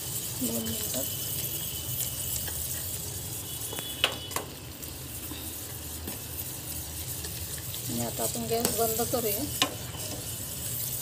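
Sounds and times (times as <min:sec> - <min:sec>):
syrup bubbling and sizzling: 0:00.0 - 0:11.0
spoon stirring in a pan: 0:00.1 - 0:11.0.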